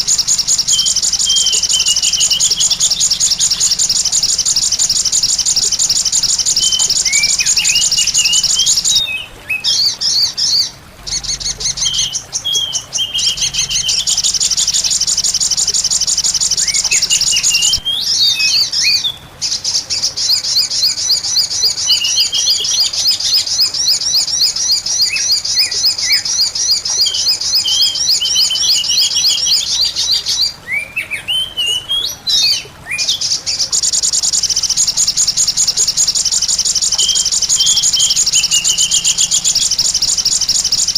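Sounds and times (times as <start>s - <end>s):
high-pitched bird chirps: 0.0s - 40.9s.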